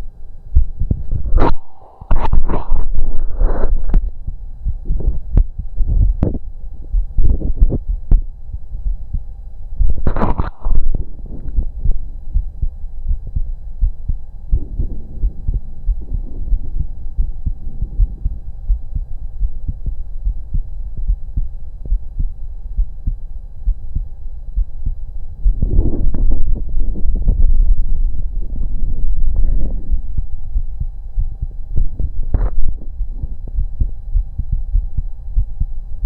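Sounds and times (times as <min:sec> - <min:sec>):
heartbeat through stethoscope: 0:00.0 - 0:36.0.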